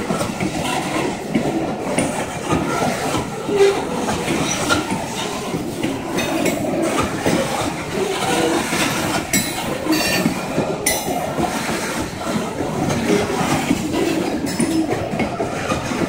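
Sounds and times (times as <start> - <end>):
train wheels rumbling on rail: 0.0 - 16.0
wheel clicks over rail joints: 0.0 - 16.0.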